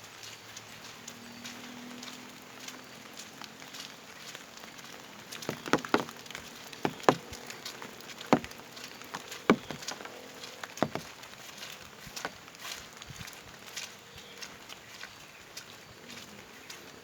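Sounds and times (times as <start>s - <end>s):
footsteps: 1.4s - 17.0s.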